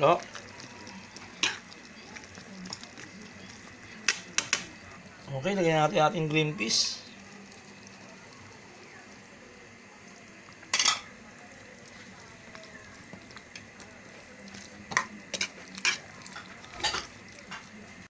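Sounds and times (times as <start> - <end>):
stew sizzling: 0.0 - 18.0.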